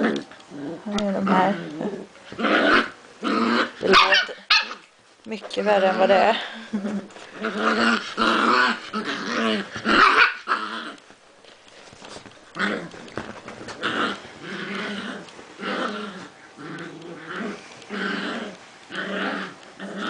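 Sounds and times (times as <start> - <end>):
dogs play-growling: 0.0 - 4.9, 5.7 - 20.0.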